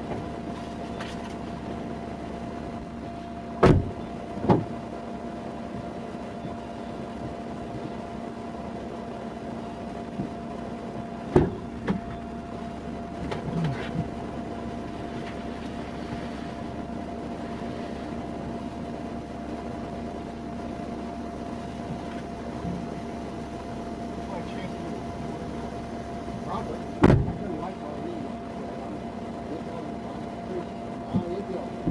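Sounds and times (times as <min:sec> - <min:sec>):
vehicle cabin mechanical hum: 0:00.0 - 0:31.9.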